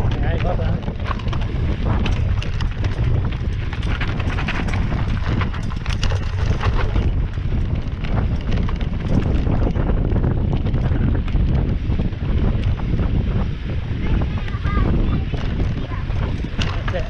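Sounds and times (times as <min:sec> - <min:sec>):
bike rattling over rocks: 0:00.0 - 0:17.0
wind buffeting microphone: 0:00.0 - 0:17.0.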